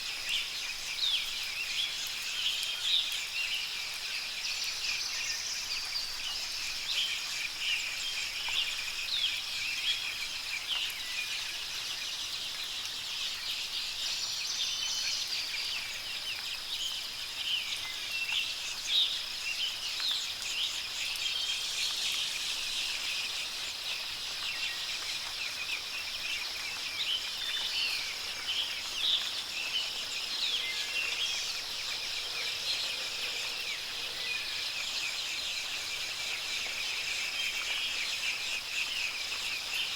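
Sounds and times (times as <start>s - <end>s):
high background hiss: 0.0s - 39.9s
songbirds chirping: 0.0s - 39.9s.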